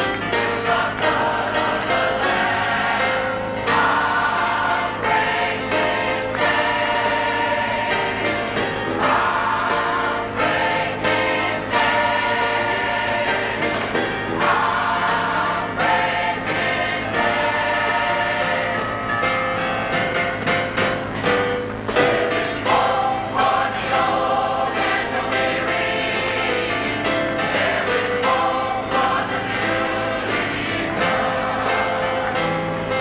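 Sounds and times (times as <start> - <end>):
choir singing gospel: 0.0 - 33.0.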